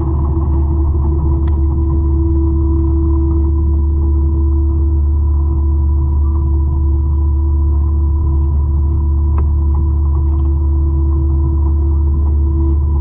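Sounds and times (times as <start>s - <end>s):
mulcher engine droning: 0.0s - 13.0s
steady whine: 0.0s - 13.0s.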